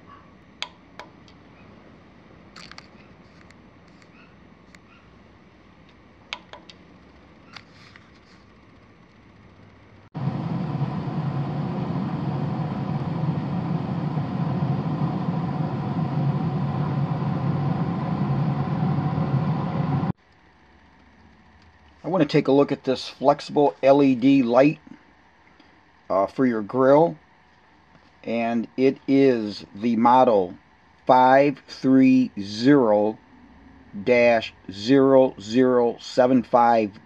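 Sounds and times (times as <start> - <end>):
grill running hum: 0.0 - 37.0.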